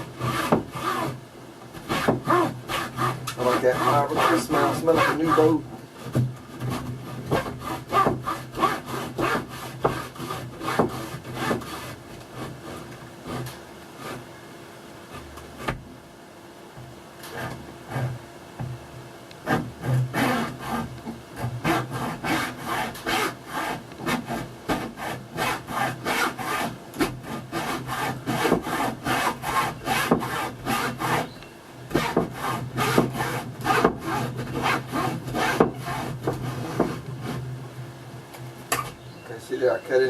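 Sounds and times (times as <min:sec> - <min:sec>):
hacksaw sawing: 0:00.0 - 0:01.2, 0:01.8 - 0:14.2, 0:17.3 - 0:18.2, 0:19.4 - 0:37.4.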